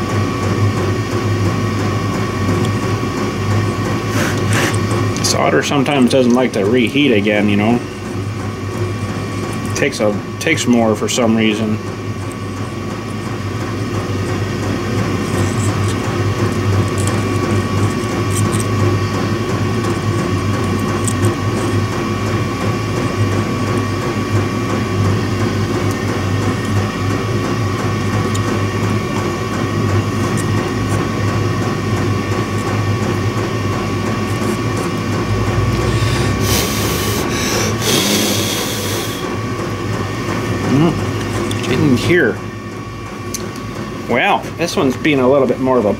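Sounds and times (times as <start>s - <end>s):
low machine hum: 0.0s - 45.9s
thin steady whine: 0.0s - 45.9s.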